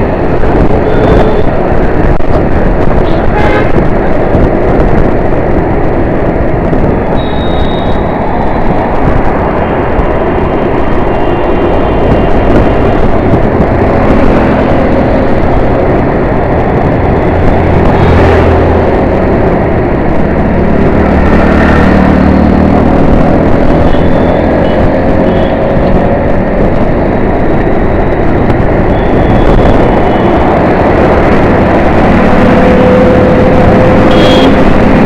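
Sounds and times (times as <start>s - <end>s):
heavy engine low drone: 0.0s - 35.0s
road traffic: 0.0s - 35.0s.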